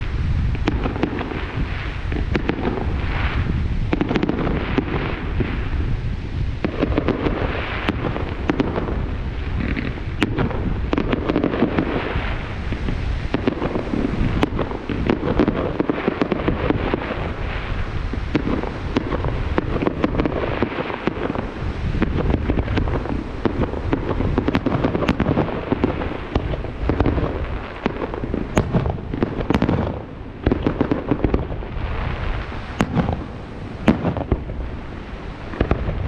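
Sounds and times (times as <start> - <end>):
fireworks crackling and banging: 0.0 - 36.0
steady low rumble: 0.0 - 36.0.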